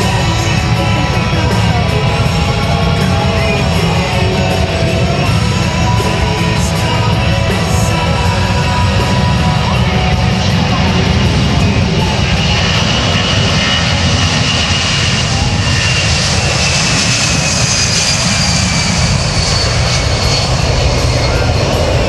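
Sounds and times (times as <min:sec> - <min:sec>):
jet engines with high whine: 0:00.0 - 0:22.0.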